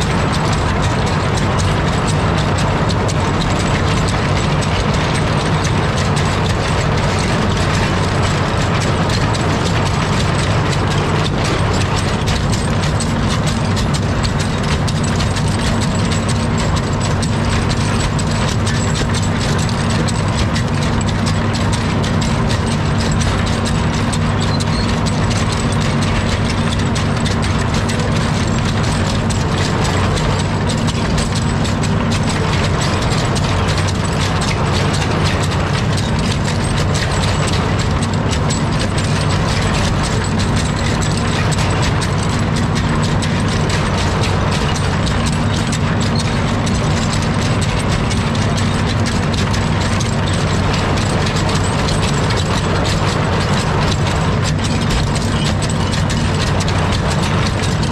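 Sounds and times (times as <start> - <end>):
diesel engine running: 0.0 - 57.9
tracks clattering: 0.0 - 57.9.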